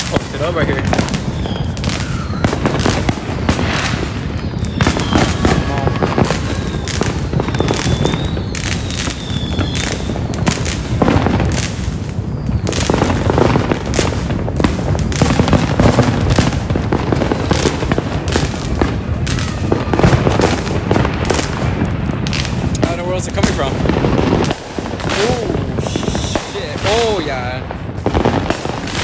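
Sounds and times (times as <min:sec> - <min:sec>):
fireworks bangs and crackling: 0:00.0 - 0:29.0
wavering firework whistle: 0:00.0 - 0:29.0.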